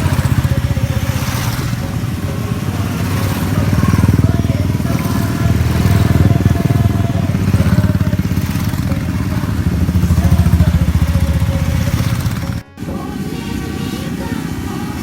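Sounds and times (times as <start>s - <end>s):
motorcycle engines running: 0.0s - 15.0s.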